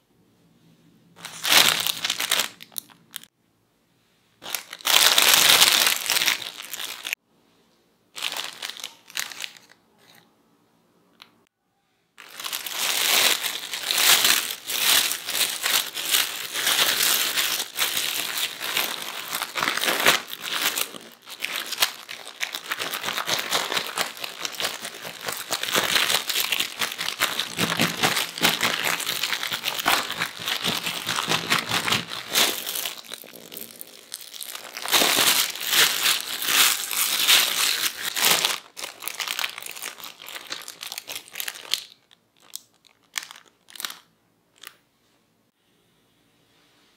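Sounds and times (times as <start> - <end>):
plastic bag crinkling: 1.2 - 3.3, 4.4 - 7.2, 8.2 - 10.2, 12.2 - 44.7.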